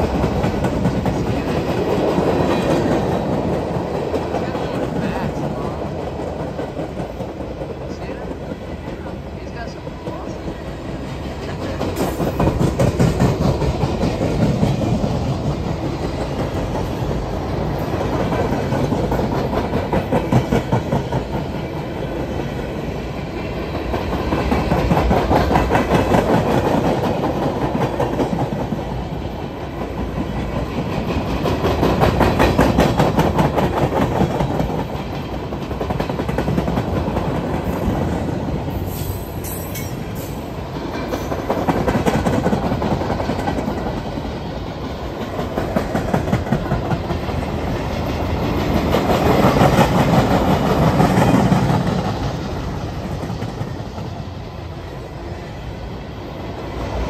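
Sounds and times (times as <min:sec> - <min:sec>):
wheels clacking over rail joints: 0:00.0 - 0:54.2
freight train rumbling past: 0:00.0 - 0:57.0.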